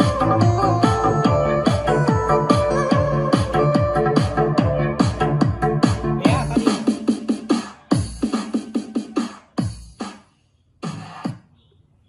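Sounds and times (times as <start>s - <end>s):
electronic music with drum beat: 0.0s - 11.7s.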